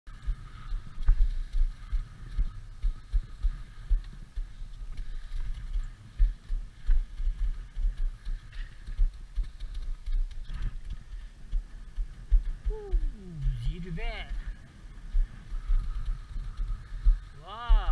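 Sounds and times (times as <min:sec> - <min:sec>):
wind buffeting microphone: 0:00.1 - 0:17.9.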